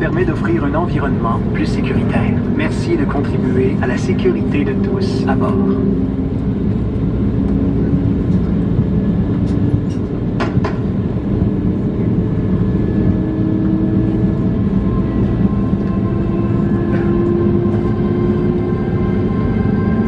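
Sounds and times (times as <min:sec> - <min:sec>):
aircraft cabin rumble: 0:00.0 - 0:20.0
jet engines humming: 0:00.0 - 0:20.0.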